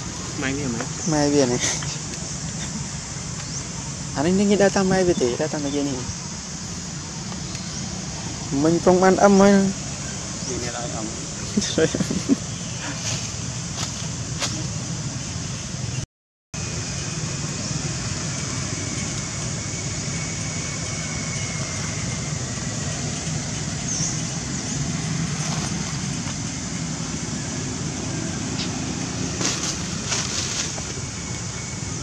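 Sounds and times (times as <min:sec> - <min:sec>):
high hiss: 0:00.0 - 0:15.7, 0:16.6 - 0:32.0.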